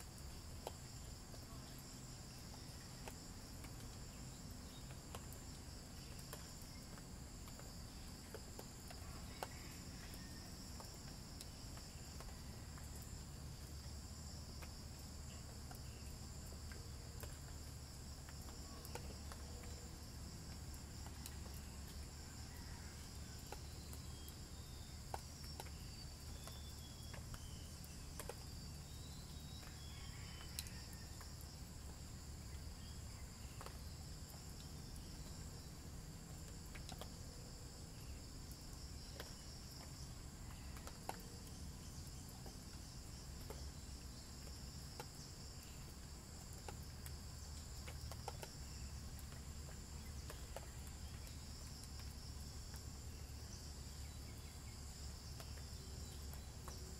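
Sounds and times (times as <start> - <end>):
crickets trilling: 0.0 - 56.9
rainwater dripping from trees: 0.0 - 56.9.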